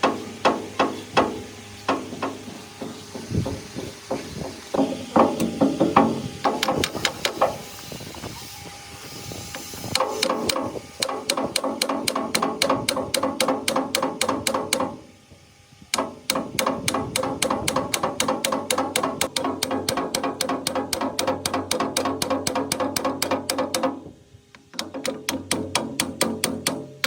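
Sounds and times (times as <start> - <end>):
rapid hammer blows on metal: 0.0 - 8.4, 9.4 - 15.0, 15.9 - 27.0.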